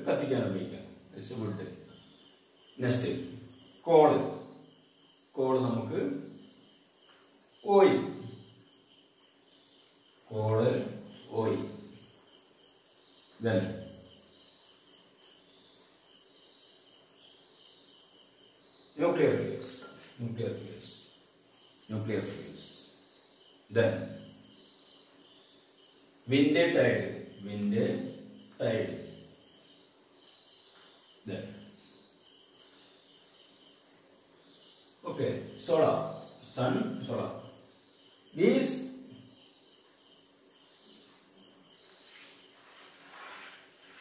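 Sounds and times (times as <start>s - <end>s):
crickets chirring: 0.0s - 44.0s.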